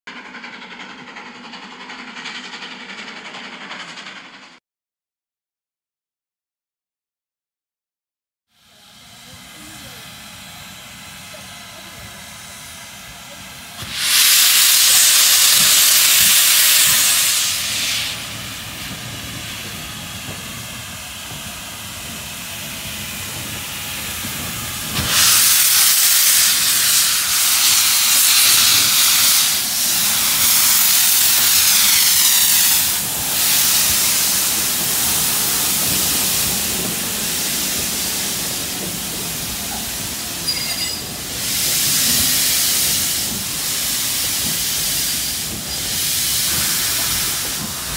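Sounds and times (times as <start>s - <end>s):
steam locomotive moving slowly: 0.1s - 4.6s, 8.6s - 47.9s
steam hissing: 8.6s - 47.9s.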